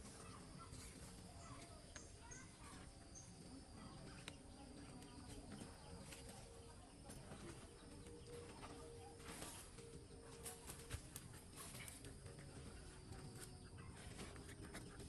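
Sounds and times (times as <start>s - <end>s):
faint forest ambience: 0.0s - 15.0s.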